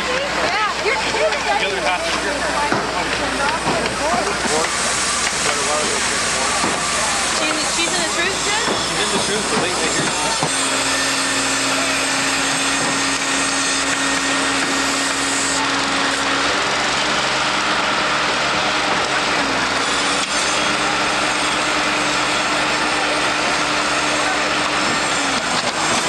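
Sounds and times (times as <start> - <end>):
construction site noise: 0.0 - 26.0
small engine humming: 0.0 - 26.0.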